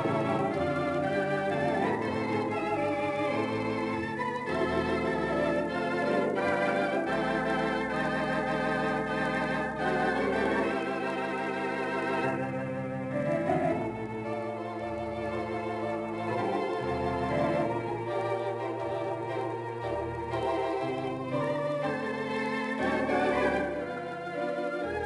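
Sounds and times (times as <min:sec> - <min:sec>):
organ pedal bass line: 0:00.0 - 0:25.0
theatre organ chords: 0:00.0 - 0:25.0.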